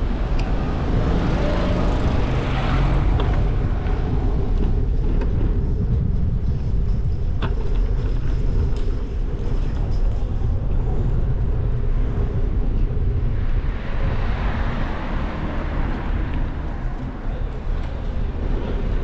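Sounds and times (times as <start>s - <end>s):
road vehicle rumble: 0.0s - 19.0s.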